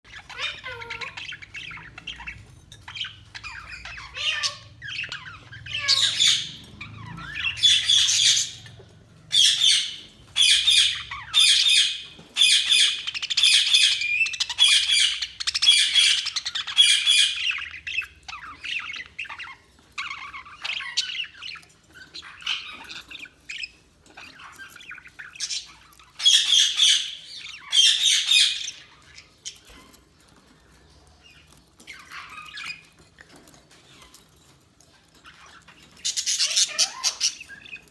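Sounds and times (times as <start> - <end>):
budgies chirping and squawking: 0.0 - 37.9.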